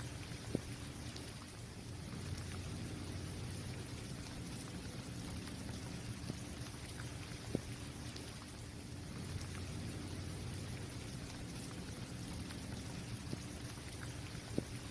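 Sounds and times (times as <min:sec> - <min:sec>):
rain on a hard court: 0:00.0 - 0:14.9.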